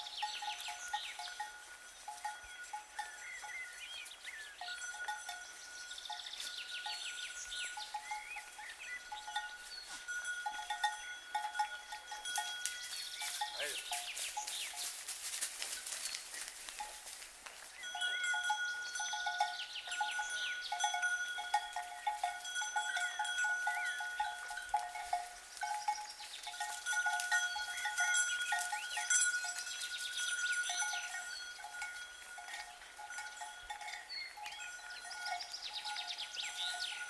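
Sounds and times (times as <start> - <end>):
cowbells clanking: 0.0 - 37.0.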